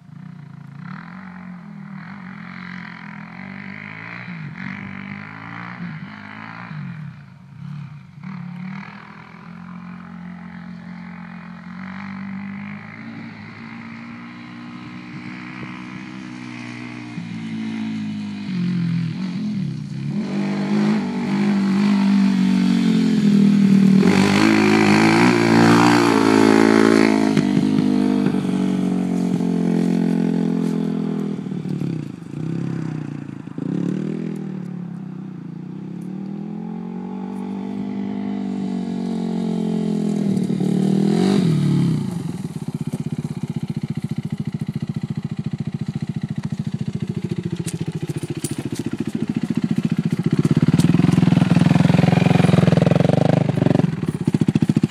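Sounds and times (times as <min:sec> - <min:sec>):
quad engine revving: 0:00.0 - 0:34.8, 0:35.6 - 0:54.9.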